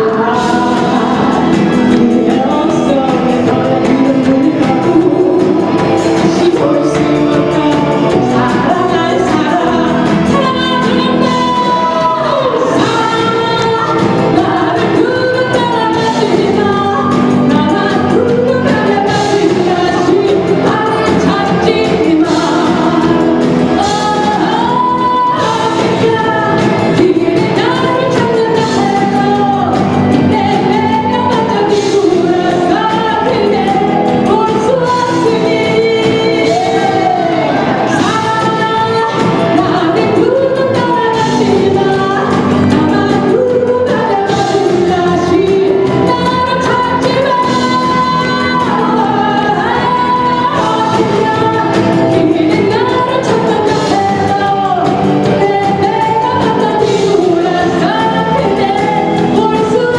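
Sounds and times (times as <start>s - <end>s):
drums: 0.0s - 59.9s
electric guitars: 0.0s - 59.9s
keyboard: 0.0s - 59.9s
singer vocals: 0.0s - 59.9s.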